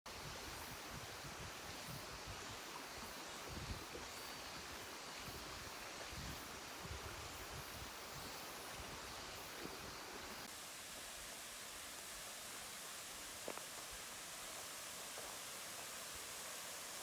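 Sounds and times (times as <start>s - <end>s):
flowing stream rushing: 0.1s - 17.0s.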